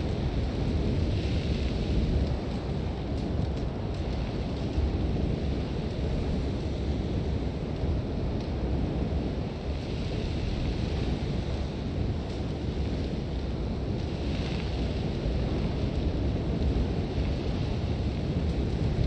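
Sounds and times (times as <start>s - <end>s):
low rumble of wind: 0.0s - 19.0s.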